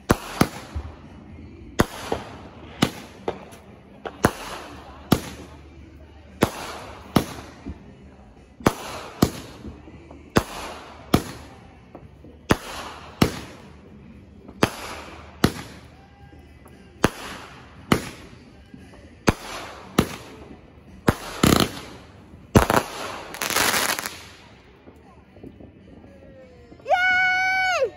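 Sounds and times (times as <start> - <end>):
fireworks bangs: 0.0 - 26.0
fireworks crackling: 0.0 - 27.9.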